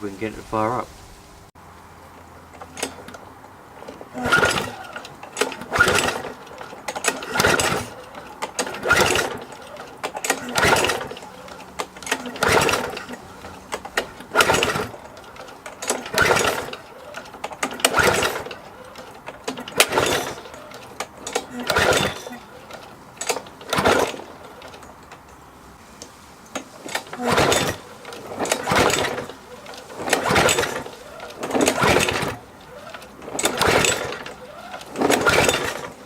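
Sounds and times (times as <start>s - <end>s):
starter cord pulled: 2.1s - 36.0s
engine turning over briefly: 2.4s - 25.0s, 26.5s - 36.0s.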